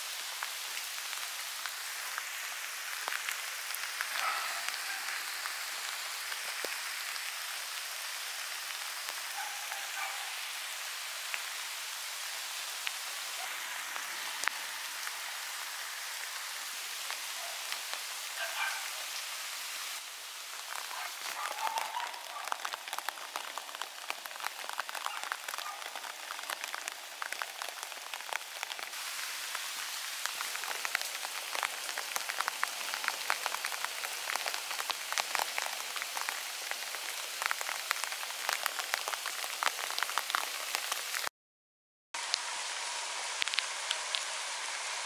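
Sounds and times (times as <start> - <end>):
steady rain with raindrop ticks: 0.0 - 41.3, 42.2 - 45.0.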